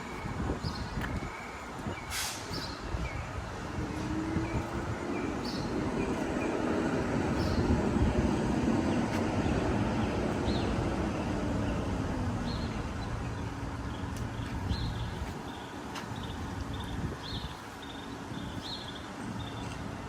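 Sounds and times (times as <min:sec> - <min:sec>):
diesel truck engine running: 0:00.0 - 0:18.6.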